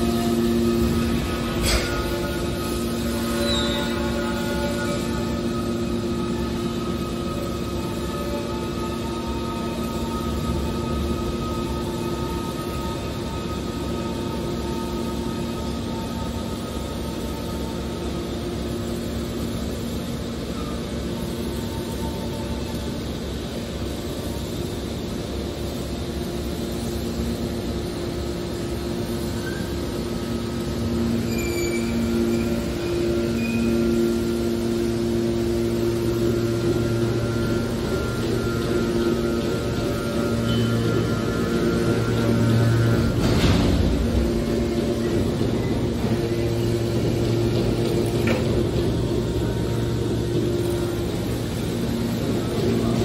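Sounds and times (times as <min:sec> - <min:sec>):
hydraulic baler hum and whine: 0:00.0 - 0:53.0.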